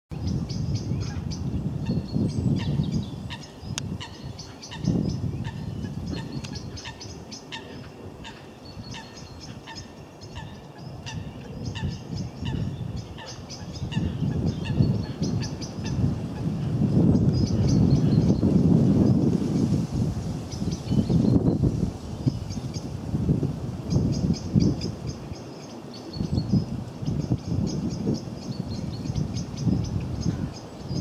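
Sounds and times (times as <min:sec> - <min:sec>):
wind rumble on microphone: 0:00.1 - 0:31.0
birds calling: 0:00.2 - 0:19.7, 0:23.9 - 0:31.0.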